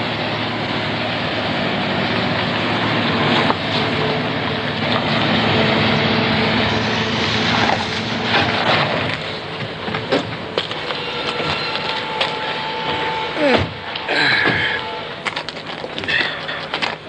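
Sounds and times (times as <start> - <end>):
car engine running: 0.0 - 17.0
tyres rumbling on gravel: 0.0 - 17.0.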